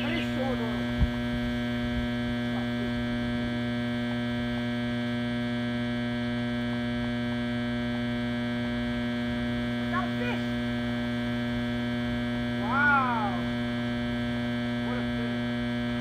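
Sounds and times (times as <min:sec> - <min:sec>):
generator humming: 0:00.0 - 0:16.0.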